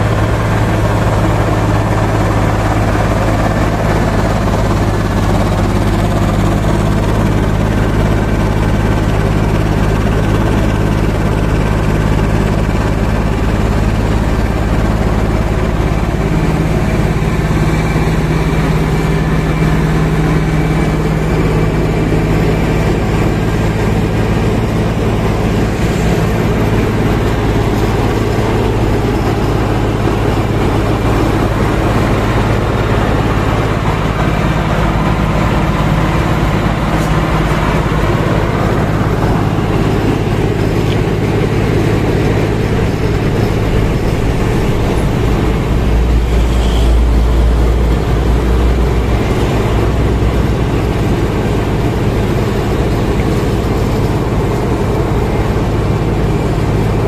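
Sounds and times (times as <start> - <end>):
diesel engine running: 0.0 - 57.0
milling drum and conveyor grinding: 0.0 - 57.0.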